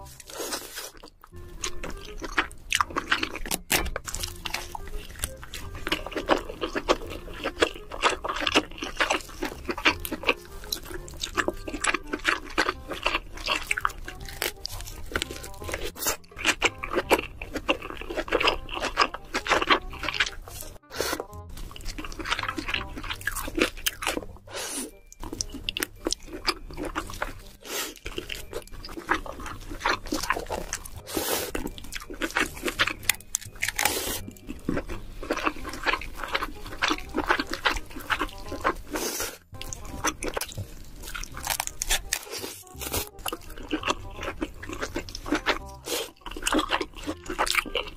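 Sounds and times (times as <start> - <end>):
background music: 0.0 - 47.9
crunching and chewing: 0.0 - 47.9.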